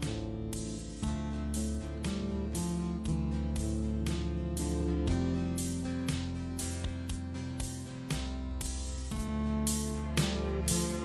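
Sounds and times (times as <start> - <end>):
plucked guitar notes: 0.0 - 11.0.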